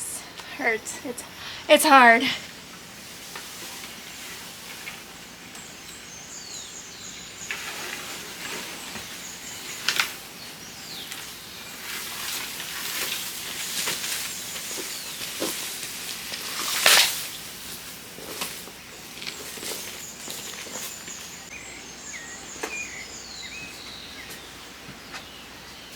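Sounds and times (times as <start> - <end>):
bamboo poles rustling and scraping: 1.9 - 25.6.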